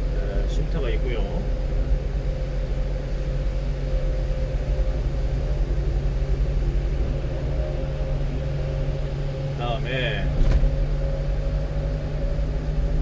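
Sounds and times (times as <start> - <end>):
truck engine hum: 0.0 - 13.0.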